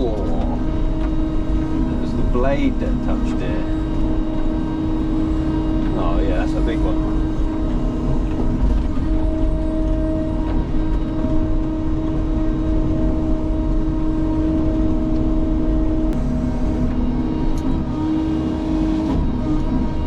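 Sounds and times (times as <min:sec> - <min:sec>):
excavator diesel engine droning: 0:00.0 - 0:20.0
hydraulic whine: 0:00.0 - 0:20.0.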